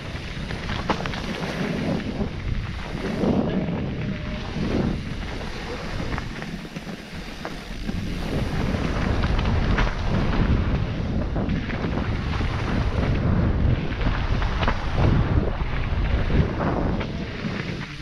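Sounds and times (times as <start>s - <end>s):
bike rattling over rocks: 0.0s - 18.0s
wind buffeting microphone: 0.0s - 18.0s.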